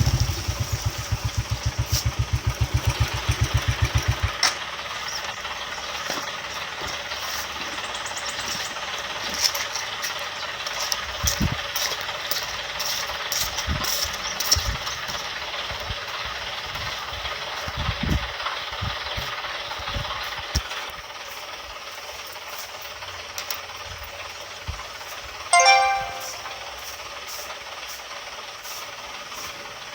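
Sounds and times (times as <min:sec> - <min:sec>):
vehicle engine running: 0:00.0 - 0:25.5.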